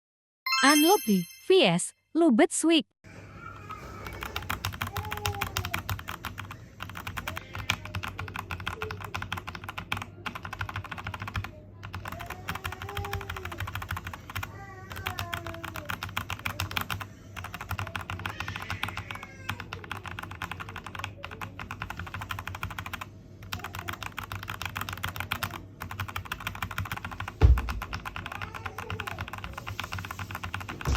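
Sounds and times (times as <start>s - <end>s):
mechanical keyboard clicks: 4.3s - 30.8s.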